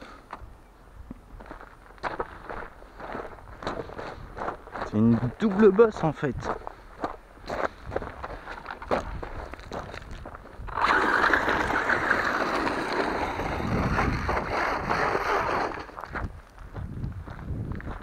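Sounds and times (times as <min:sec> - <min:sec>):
tyres crunching on gravel: 0:01.4 - 0:18.0.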